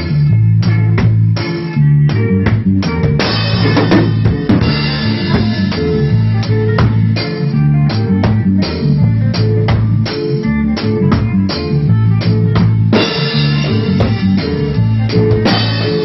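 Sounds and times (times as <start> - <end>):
drum kit beat: 0.0 - 16.0
electric bass line: 0.0 - 16.0
rock band playing live: 0.0 - 16.0.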